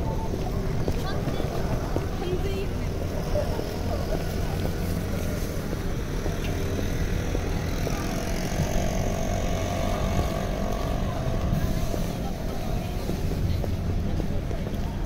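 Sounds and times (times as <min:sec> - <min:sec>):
droning vehicle engine: 0:00.0 - 0:15.0
road traffic rumble: 0:00.0 - 0:15.0.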